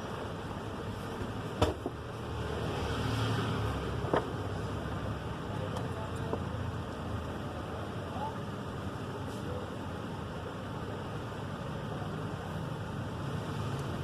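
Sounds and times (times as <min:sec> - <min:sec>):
fan-like hum: 0:00.0 - 0:14.0.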